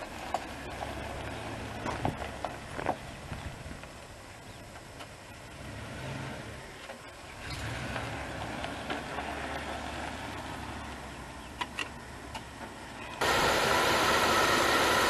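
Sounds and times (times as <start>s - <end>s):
pickup engine at low revs: 0.0s - 3.9s, 5.3s - 15.0s
tyres crunching on gravel: 0.0s - 15.0s.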